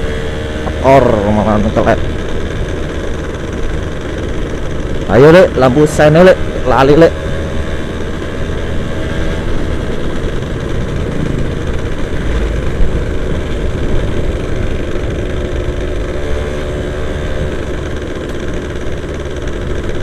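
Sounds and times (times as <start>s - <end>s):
two-stroke motorcycle engine: 0.0s - 20.0s
wind and road rumble: 0.0s - 20.0s.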